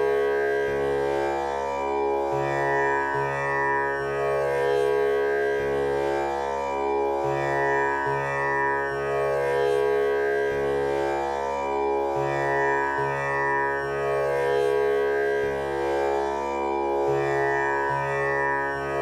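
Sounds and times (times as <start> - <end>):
tanpura drone: 0.0 - 19.0.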